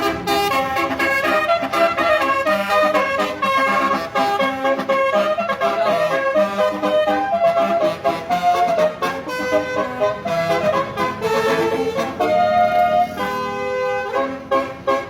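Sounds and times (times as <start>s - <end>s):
air horn trumpet melody: 0.0s - 15.0s.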